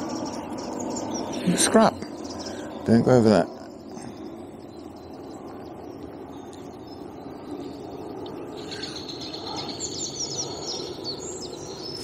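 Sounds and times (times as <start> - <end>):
birds chirping: 0.0 - 12.0
low outdoor background rumble: 0.0 - 12.0.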